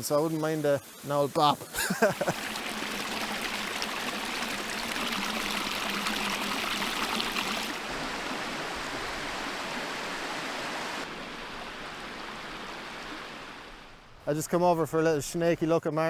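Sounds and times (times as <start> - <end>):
stream water rushing: 0.0 - 14.9.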